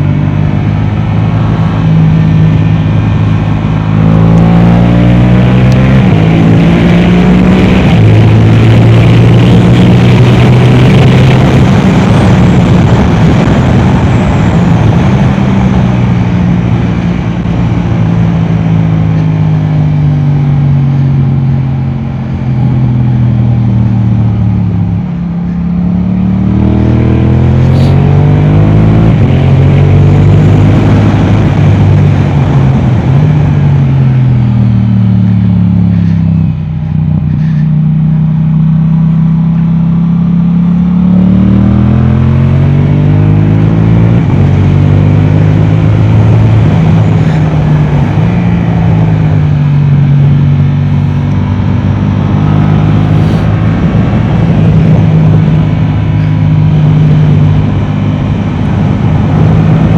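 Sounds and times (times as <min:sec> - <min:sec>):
motorcycle engine running hard: 0:00.0 - 0:59.9.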